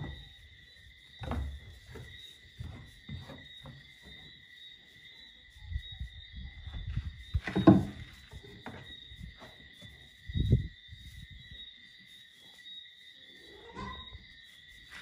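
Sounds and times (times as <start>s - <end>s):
goats rustling on straw: 0.0s - 15.0s.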